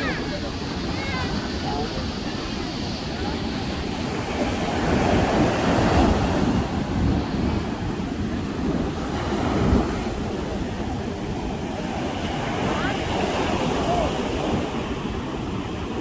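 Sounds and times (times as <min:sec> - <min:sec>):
surf washing up a beach: 0:00.0 - 0:16.0
wind on microphone: 0:00.0 - 0:16.0.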